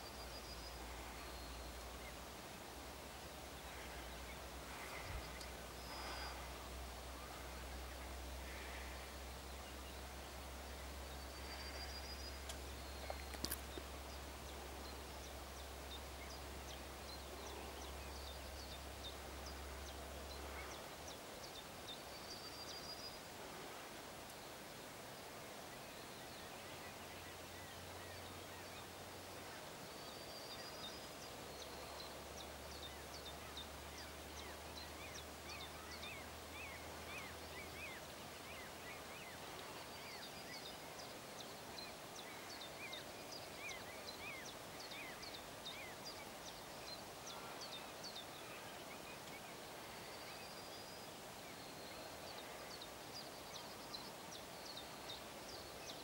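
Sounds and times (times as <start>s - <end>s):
faint outdoor hiss: 0.0s - 56.0s
small birds chirping: 0.0s - 56.0s.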